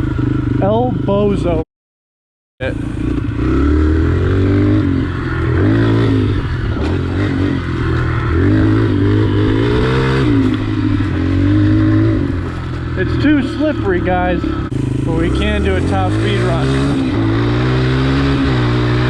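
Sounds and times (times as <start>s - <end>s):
pit bike engine revving: 2.6s - 19.0s.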